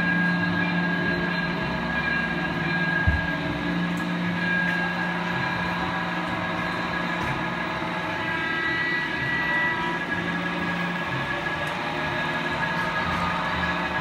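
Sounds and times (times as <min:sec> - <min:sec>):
wheels rumbling on track: 0:00.0 - 0:14.0.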